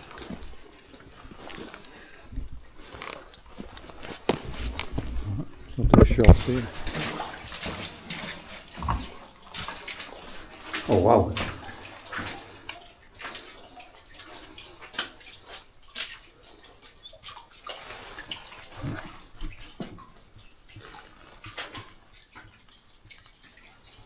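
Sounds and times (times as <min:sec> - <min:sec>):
faint running water: 0:00.0 - 0:24.0
water dripping and splashing: 0:00.0 - 0:24.0.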